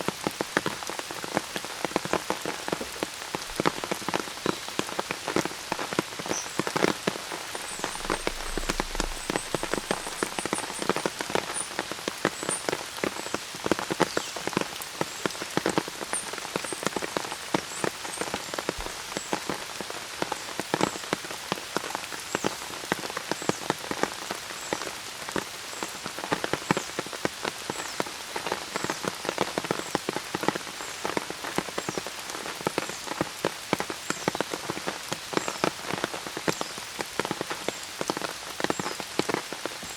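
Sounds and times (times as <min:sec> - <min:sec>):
rain drops hitting surface: 0:00.0 - 0:39.9.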